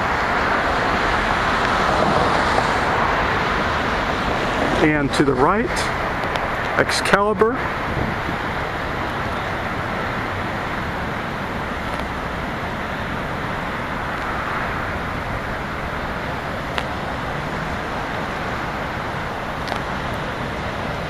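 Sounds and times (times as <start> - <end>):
passing cars: 0.0 - 21.0.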